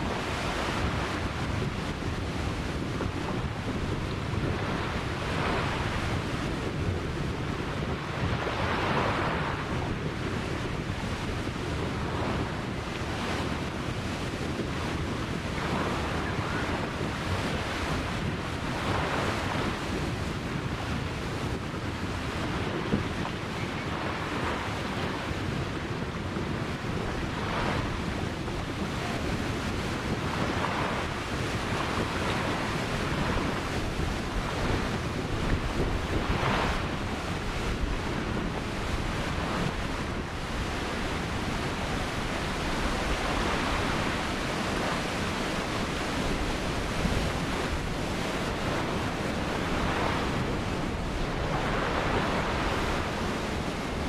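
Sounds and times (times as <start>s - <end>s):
waves breaking on shore: 0.0s - 54.0s
wind buffeting microphone: 0.0s - 54.0s.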